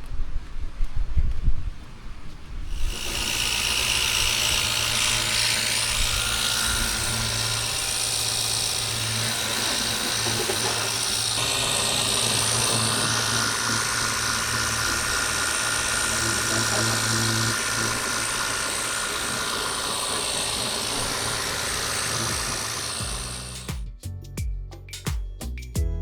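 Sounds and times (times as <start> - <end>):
pressure washer motor hum: 2.7 - 23.8.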